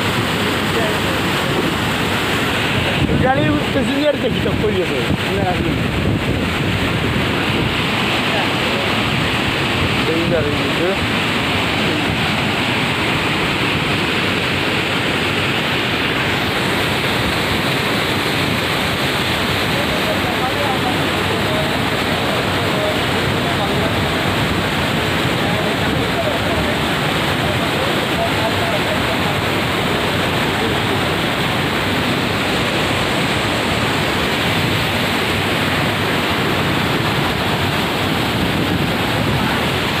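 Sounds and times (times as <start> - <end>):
floodwater rushing: 0.0 - 40.0.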